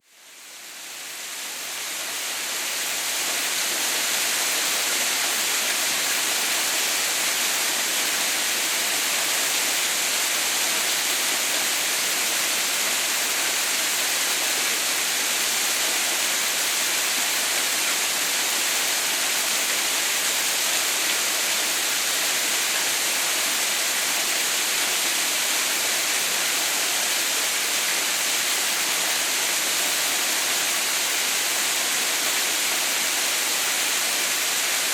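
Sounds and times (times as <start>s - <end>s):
waterfall: 0.0s - 34.9s.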